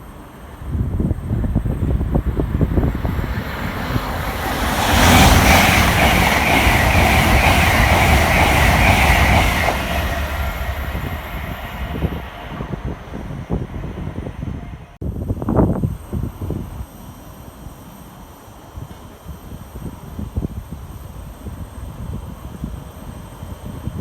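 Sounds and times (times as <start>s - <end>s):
train wheel and rail noise: 0.0s - 24.0s.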